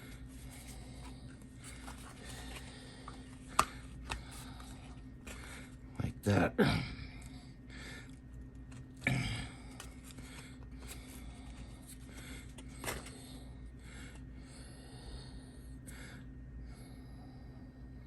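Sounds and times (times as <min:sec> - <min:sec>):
person breathing heavily through nose: 0:00.0 - 0:05.9, 0:06.8 - 0:08.2, 0:09.1 - 0:18.0
low electrical hum: 0:00.0 - 0:18.0.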